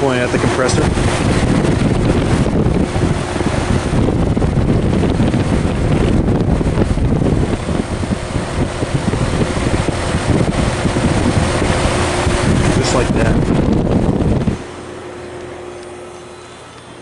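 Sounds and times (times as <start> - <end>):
fan air rushing over microphone: 0.0 - 17.0
steady hum: 0.0 - 17.0.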